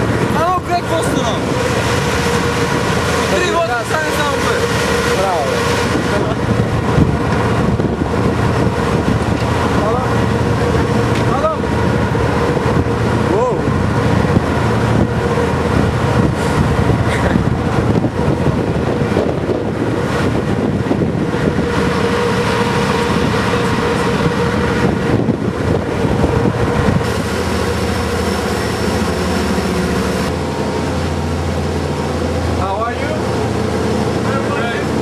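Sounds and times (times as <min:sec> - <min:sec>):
vehicle rumble in motion: 0:00.0 - 0:35.0.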